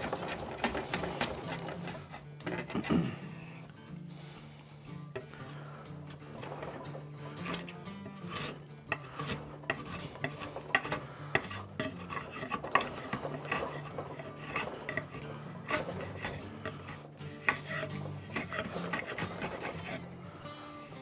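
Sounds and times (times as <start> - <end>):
file rasping on wood: 0.0 - 3.0, 5.2 - 21.0.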